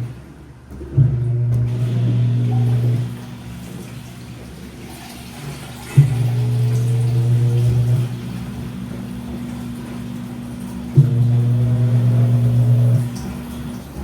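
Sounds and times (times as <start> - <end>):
washing machine drum motor humming: 0.0 - 14.0.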